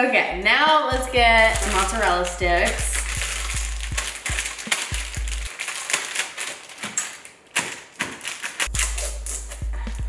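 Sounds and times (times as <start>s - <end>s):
plastic wrapper crinkling: 1.4s - 9.7s.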